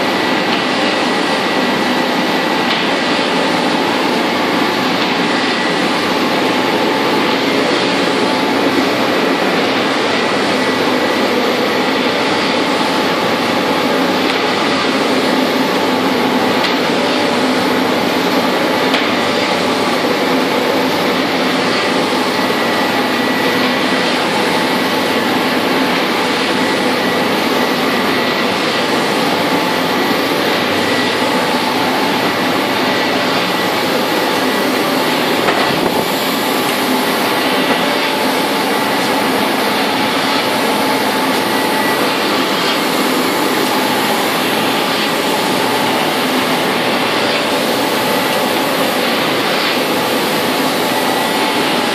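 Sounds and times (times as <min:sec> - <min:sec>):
machine and fan noise: 0:00.0 - 0:51.9.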